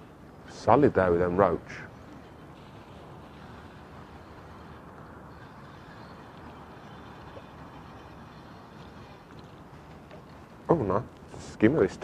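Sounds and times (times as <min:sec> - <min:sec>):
outdoor hiss and rumble: 0:00.0 - 0:12.0.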